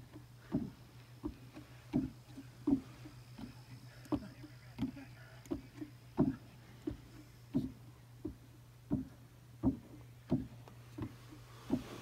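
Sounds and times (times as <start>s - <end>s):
soft wooden knocks: 0.0s - 12.0s.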